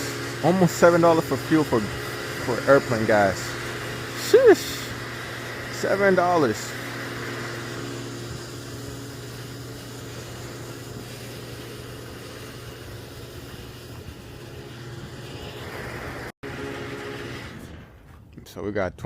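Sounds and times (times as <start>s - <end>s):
fuel pump humming: 0.0s - 17.6s.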